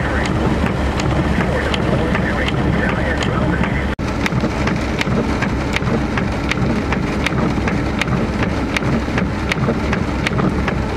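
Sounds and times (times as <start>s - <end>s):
rain falling: 0.0s - 10.9s
raindrops ticking nearby: 0.0s - 10.9s
steady low rumble: 0.0s - 10.9s.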